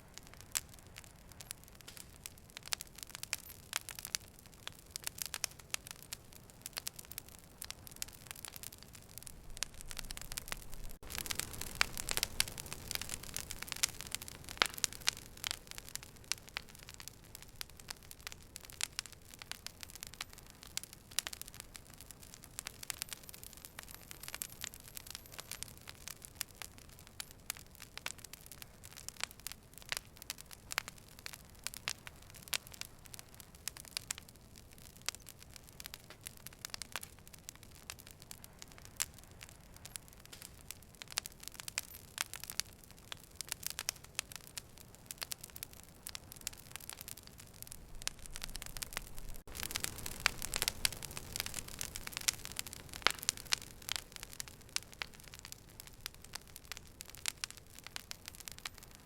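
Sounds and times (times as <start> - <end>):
fire crackling and popping: 0.0 - 59.0
soft fire hiss: 0.0 - 59.0.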